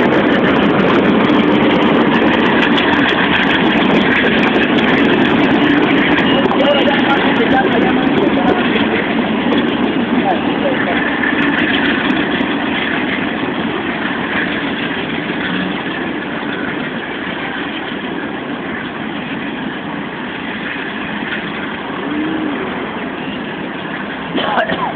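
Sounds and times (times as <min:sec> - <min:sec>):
diesel locomotive engines running: 0:00.0 - 0:24.9
road traffic: 0:00.0 - 0:24.9.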